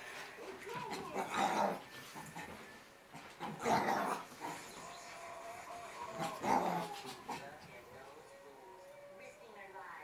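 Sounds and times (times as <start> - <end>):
puppy play noises: 0.0 - 9.5.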